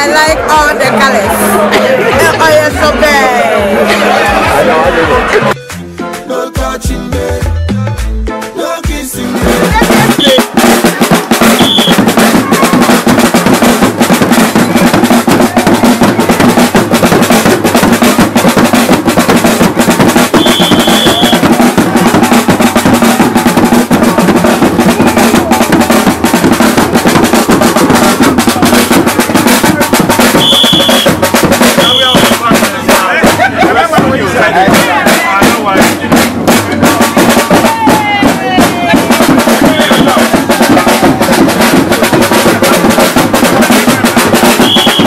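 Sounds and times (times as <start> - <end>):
afrobeat song: 0.0 - 45.0
fast dense drumming: 8.8 - 45.0.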